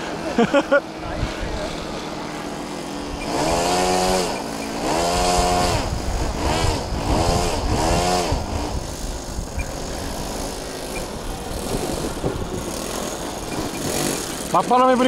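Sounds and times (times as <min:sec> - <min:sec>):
model plane engine revving: 0:01.2 - 0:15.0.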